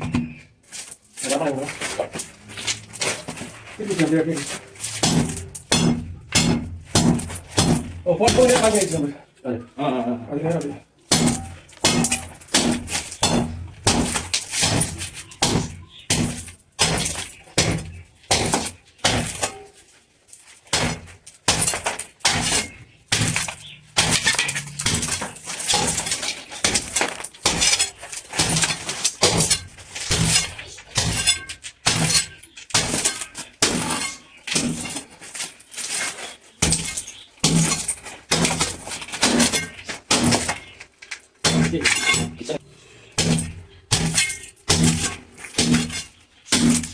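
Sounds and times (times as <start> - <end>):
hammer breaking tile and masonry: 2.7 - 9.1, 11.1 - 19.8, 20.6 - 46.9.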